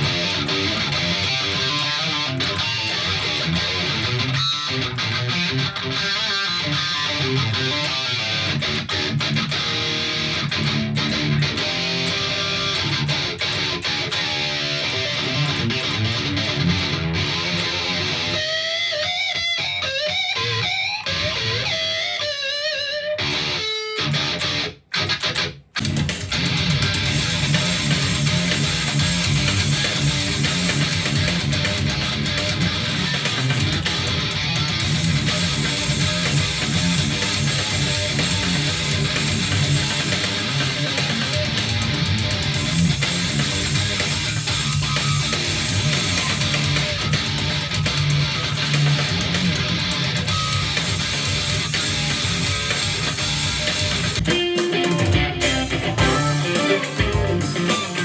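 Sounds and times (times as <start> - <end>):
electric guitar fast picked notes: 0.0 - 58.0.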